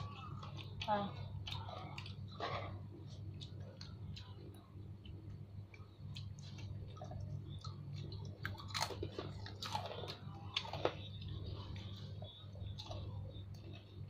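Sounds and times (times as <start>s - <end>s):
child chewing: 0.0s - 14.0s
steady low hum: 0.0s - 14.0s.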